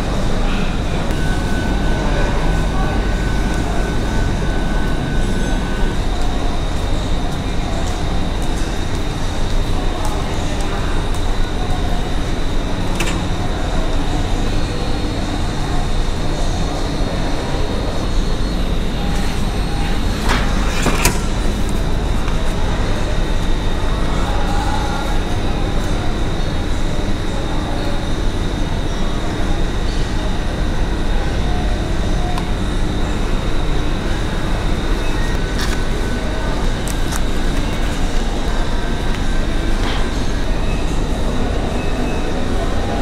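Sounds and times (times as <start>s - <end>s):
high even whine: 0.0s - 43.0s
machine hum and rumble: 0.0s - 43.0s.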